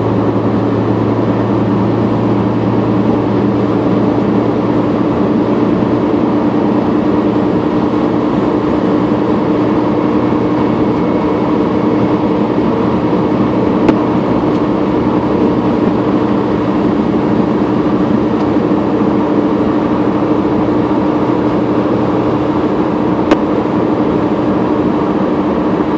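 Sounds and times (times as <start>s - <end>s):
car driving on highway interior: 0.0s - 25.9s.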